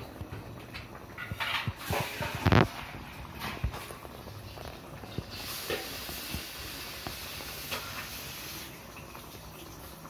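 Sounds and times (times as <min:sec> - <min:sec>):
sauce sizzling in a wok: 0:00.0 - 0:10.0.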